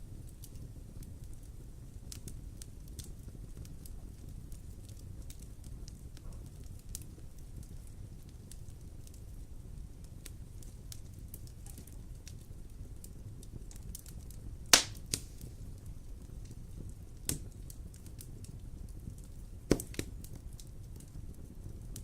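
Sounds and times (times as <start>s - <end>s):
low rumble of flames: 0.0s - 22.0s
burning wood popping: 0.1s - 22.0s.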